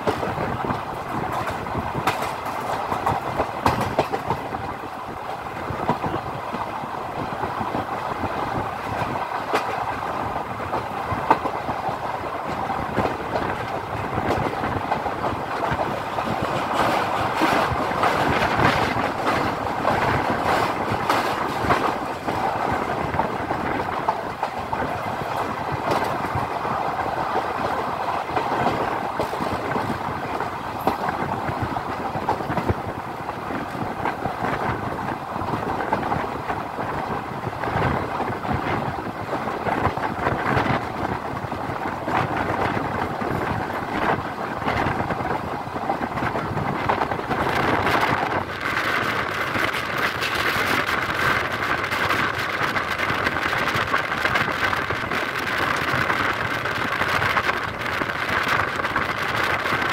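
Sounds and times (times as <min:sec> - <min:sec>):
train wheels rushing on rails: 0:00.0 - 0:59.9
wind rushing: 0:00.0 - 0:59.9.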